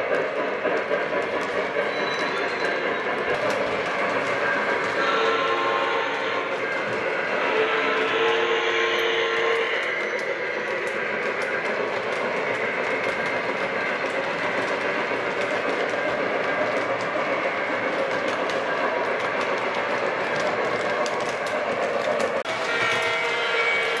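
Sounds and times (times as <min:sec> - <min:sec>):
model train wheels rumbling: 0:00.0 - 0:24.0.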